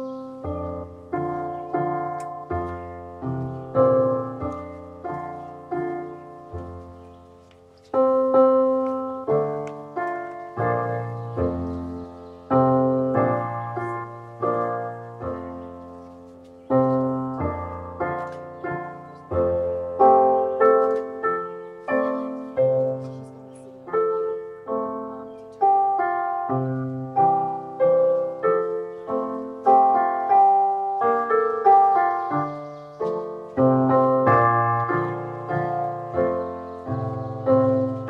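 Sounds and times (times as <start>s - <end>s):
slow solo piano: 0.0s - 38.0s.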